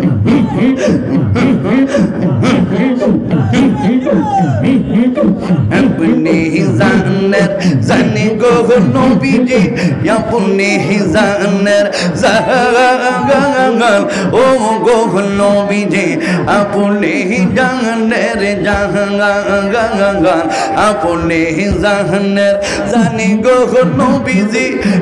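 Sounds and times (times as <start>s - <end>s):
man singing chant: 0.0s - 25.0s.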